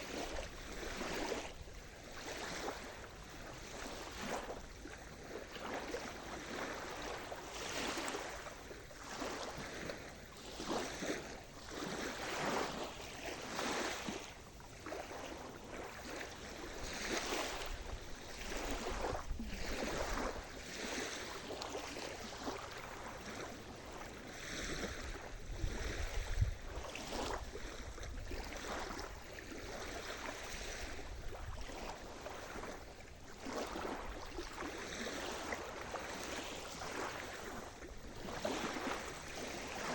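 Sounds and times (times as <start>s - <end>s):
sea surf washing ashore: 0.0s - 39.9s
wind rumble on microphone: 0.0s - 39.9s.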